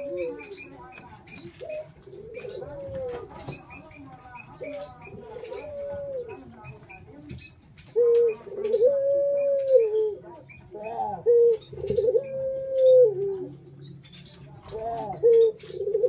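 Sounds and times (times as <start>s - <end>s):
dove cooing: 0.0s - 13.7s, 14.4s - 16.0s.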